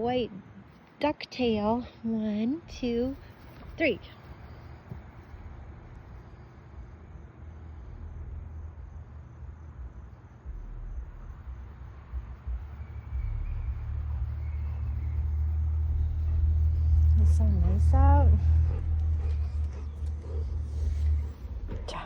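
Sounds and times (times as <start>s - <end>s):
low rumble: 2.6s - 22.0s.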